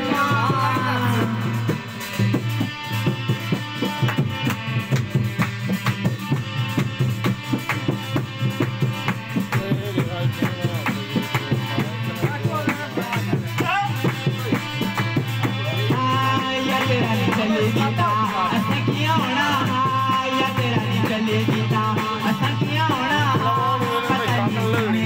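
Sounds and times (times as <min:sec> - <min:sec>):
hand drum rhythm: 0:00.0 - 0:25.0.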